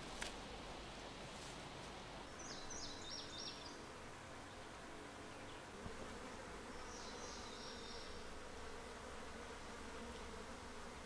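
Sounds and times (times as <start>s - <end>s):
flies buzzing: 0.0s - 11.0s.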